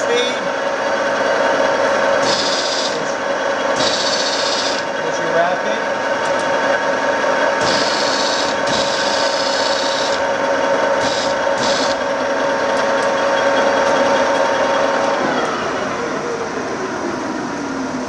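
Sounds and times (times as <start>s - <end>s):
lathe drive whining: 0.0s - 18.0s.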